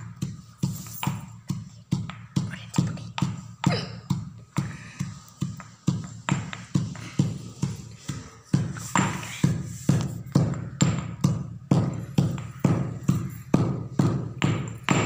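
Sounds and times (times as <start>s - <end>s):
pestle pounding in mortar: 0.0s - 15.0s.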